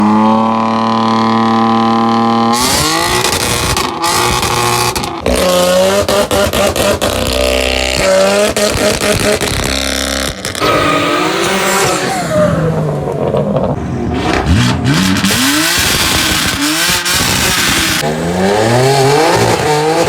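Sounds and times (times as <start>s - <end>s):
car exhaust revving: 0.0s - 20.0s.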